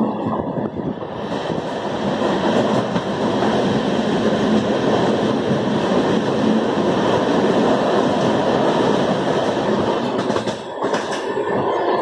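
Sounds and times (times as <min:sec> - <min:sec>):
train wheels on rails in tunnel: 0:00.0 - 0:12.0.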